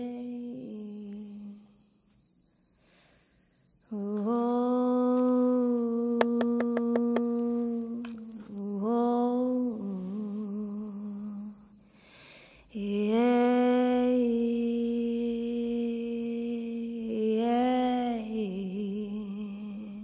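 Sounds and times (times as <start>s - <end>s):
person humming a slow tune: 0.0s - 1.9s, 3.8s - 11.8s, 12.7s - 20.0s.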